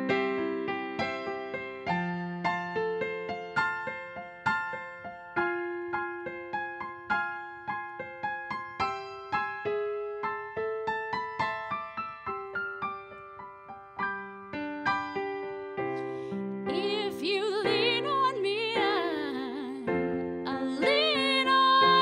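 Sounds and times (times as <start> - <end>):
solo piano ballad: 0.0 - 22.0.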